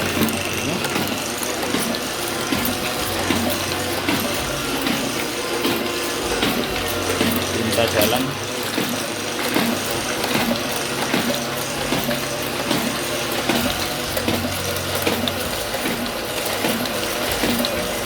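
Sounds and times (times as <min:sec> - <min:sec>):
printing press clacking: 0:00.0 - 0:18.0
printing press whirring: 0:00.0 - 0:18.0.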